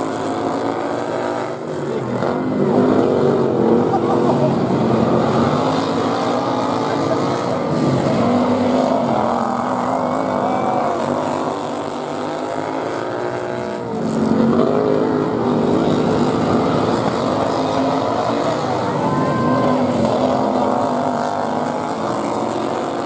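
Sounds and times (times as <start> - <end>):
small racing engines revving: 0.0 - 23.0.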